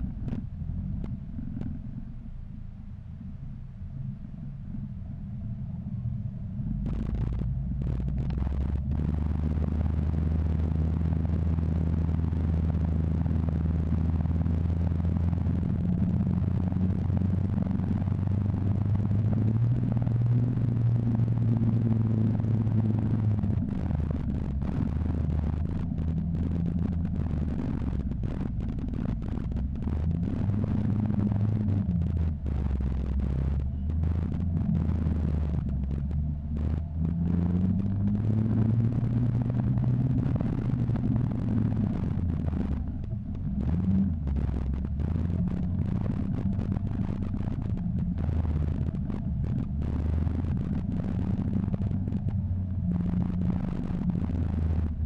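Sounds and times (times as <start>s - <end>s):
car engine drone: 0.0s - 55.0s
wind on microphone: 0.0s - 55.0s.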